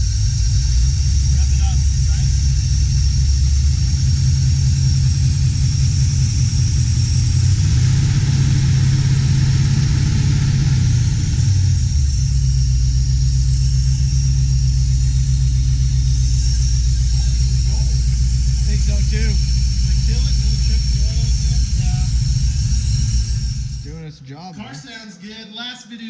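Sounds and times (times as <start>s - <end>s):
car engine idling: 0.0s - 24.3s.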